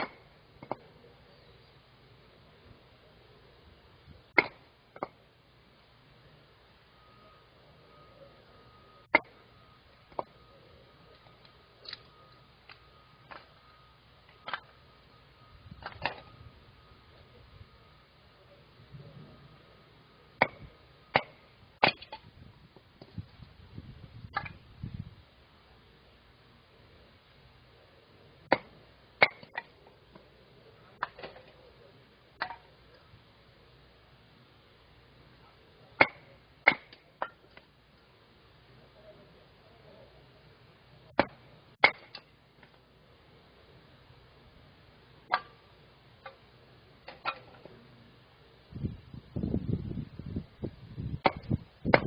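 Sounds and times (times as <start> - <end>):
faint steady tone: 0.0 - 51.9.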